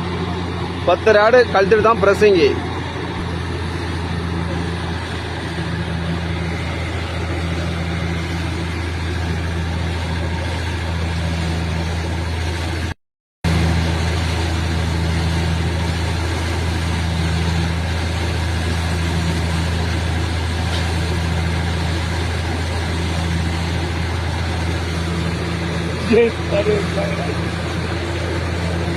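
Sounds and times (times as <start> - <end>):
diesel engine humming: 0.0 - 28.9.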